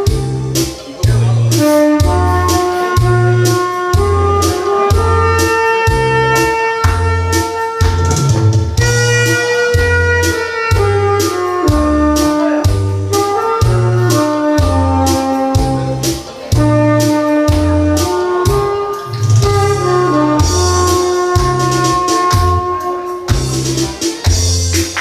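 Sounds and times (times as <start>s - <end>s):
bass: 0.0s - 25.0s
saxophone melody: 0.0s - 25.0s
steady drum beat: 0.0s - 25.0s.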